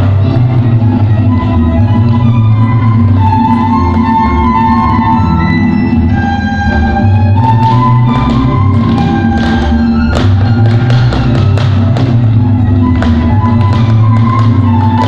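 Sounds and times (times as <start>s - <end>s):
sustained pitched tones: 0.0s - 15.0s.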